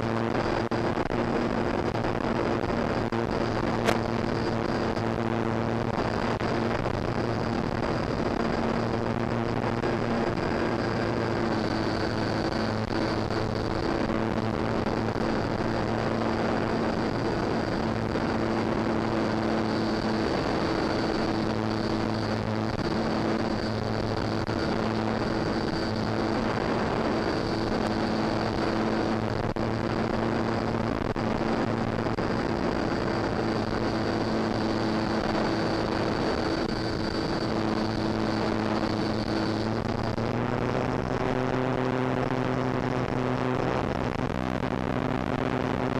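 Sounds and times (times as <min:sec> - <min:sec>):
electric motor hum and whine: 0:00.0 - 0:45.9.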